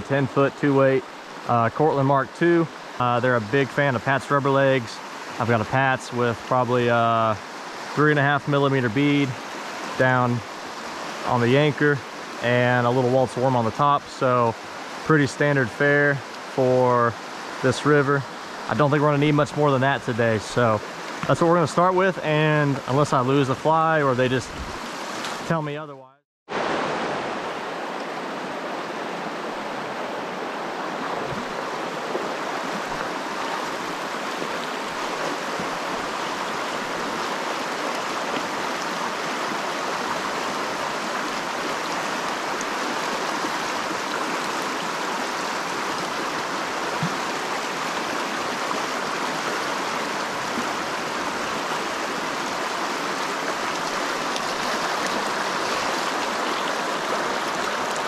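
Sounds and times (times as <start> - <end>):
river water rushing over rocks: 0.0 - 2.0, 2.7 - 3.4, 4.2 - 8.2, 9.1 - 12.4, 16.2 - 25.6, 26.5 - 58.0.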